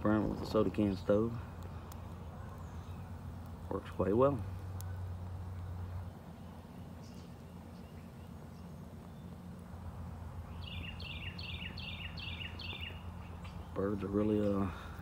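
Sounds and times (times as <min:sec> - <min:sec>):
songbird chirping: 0:00.1 - 0:03.9, 0:04.5 - 0:15.0.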